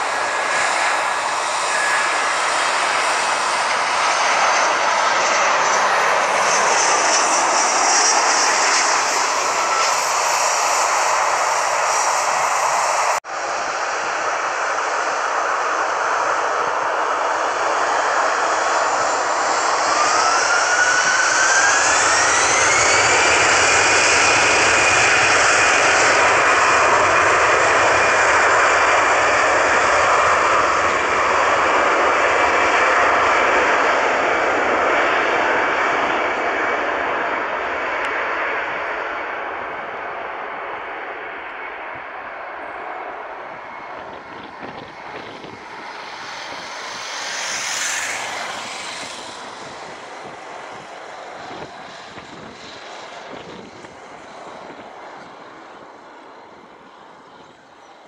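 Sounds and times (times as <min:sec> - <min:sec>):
jet engine whine: 0:00.0 - 0:58.0
loud jet engine noise: 0:00.0 - 0:58.0.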